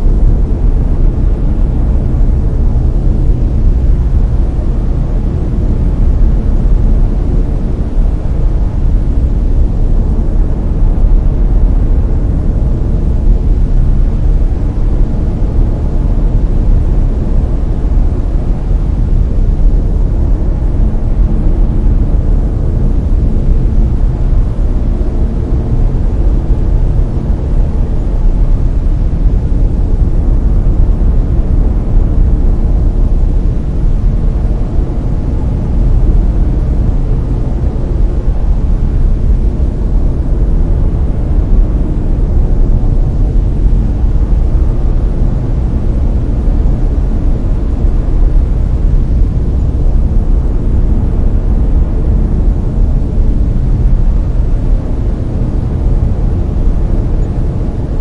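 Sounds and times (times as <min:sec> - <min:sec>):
deep rushing brown noise: 0:00.0 - 0:58.0.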